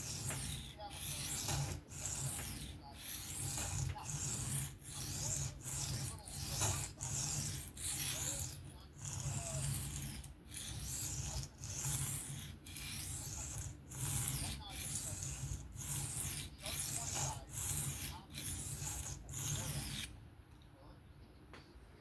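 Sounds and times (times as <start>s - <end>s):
knife scraping on sharpening plate: 0.0s - 20.1s.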